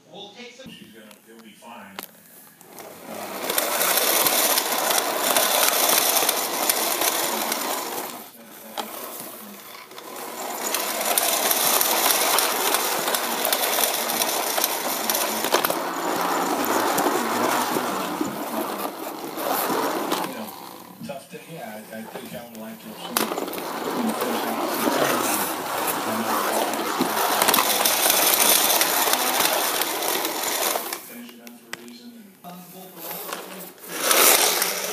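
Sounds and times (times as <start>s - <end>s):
toy vehicle whirring and rattling: 2.6s - 21.0s, 21.6s - 31.2s, 33.0s - 34.9s.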